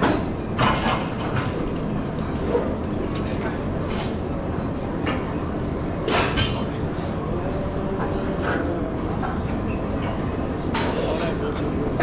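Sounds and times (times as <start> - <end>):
gym background rumble: 0.0 - 12.0.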